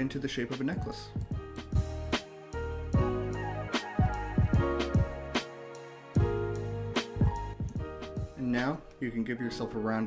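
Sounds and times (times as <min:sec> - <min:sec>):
keyboard chords and drum beat: 0:00.3 - 0:09.0.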